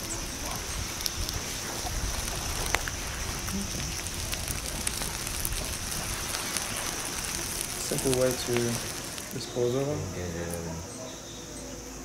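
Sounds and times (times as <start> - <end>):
bonfire crackling and popping: 0.0 - 10.7
steady high hiss: 0.0 - 12.0.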